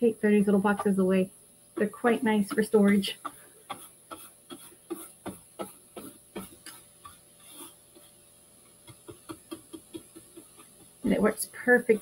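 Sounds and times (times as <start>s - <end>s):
paintbrush strokes on cardboard: 1.8s - 12.0s.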